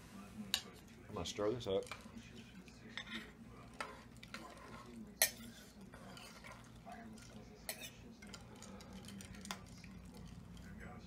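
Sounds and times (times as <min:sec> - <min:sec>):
spoon stirring soup: 0:00.1 - 0:11.0.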